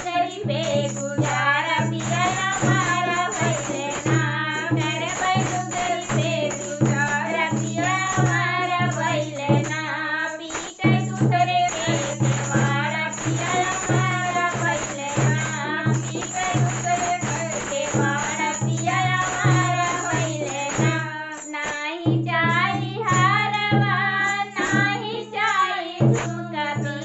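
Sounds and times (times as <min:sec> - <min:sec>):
jingling percussion: 0:00.0 - 0:27.0
women singing folk song: 0:00.0 - 0:27.0.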